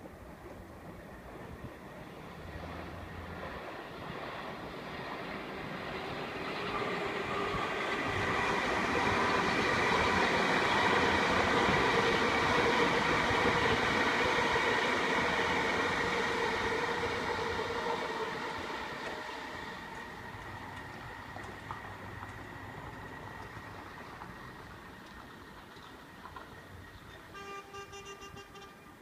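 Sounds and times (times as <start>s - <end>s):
train rolling rumble: 0.0s - 27.4s
multi-tone train whine: 0.0s - 29.0s.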